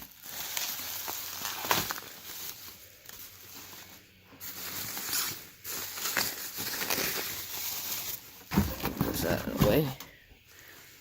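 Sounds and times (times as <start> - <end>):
plastic packaging rustling: 0.0 - 10.0.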